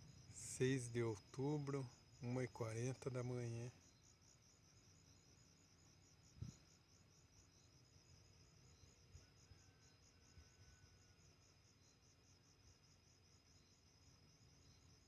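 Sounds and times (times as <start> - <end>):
faint cricket chirping: 0.0 - 15.0.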